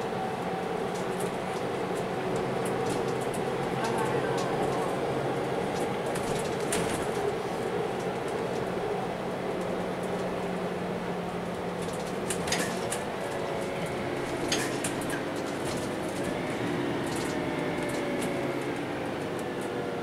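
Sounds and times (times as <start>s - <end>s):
bus engine and drivetrain hum: 0.0s - 20.0s.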